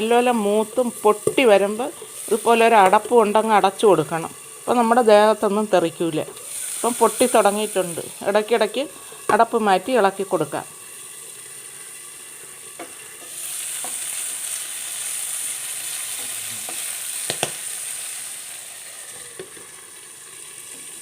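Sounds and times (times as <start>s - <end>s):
chillies sizzling in oil: 0.0s - 21.0s.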